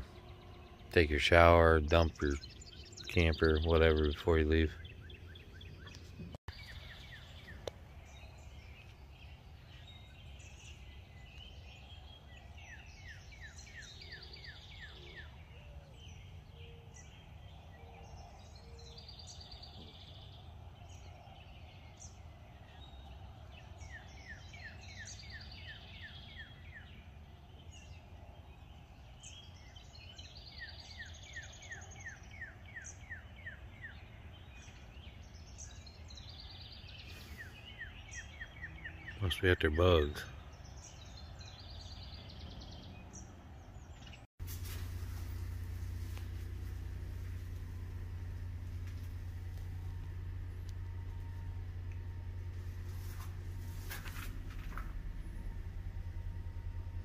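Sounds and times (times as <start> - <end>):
low outdoor rumble: 0.0 - 57.0
songbirds singing: 0.0 - 57.0.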